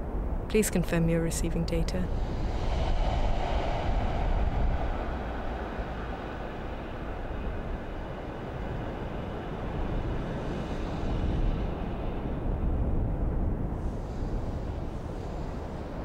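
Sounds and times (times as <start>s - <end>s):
deep steady rumble: 0.0s - 16.0s.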